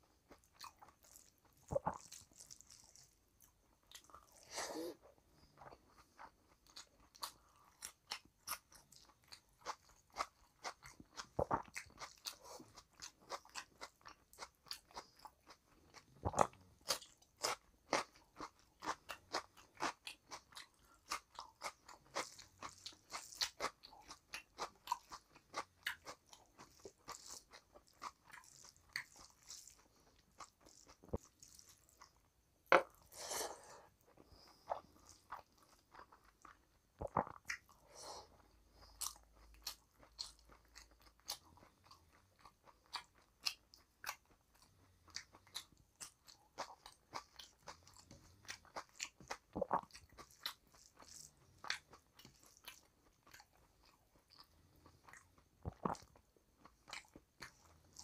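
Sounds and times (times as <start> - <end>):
person chewing with crunches: 0.0 - 58.0.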